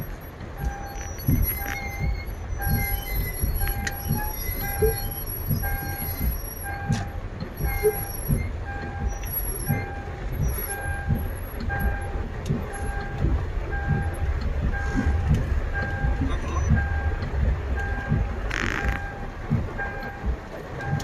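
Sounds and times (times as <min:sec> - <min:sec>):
electronic warning beeper: 0:00.0 - 0:21.0
vehicle rumble: 0:00.0 - 0:21.0.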